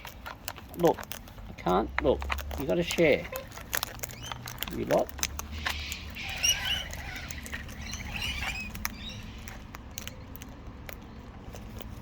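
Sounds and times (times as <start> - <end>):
beaks pecking at seed: 0.0 - 12.0
birds chirping and squeaking: 0.0 - 12.0.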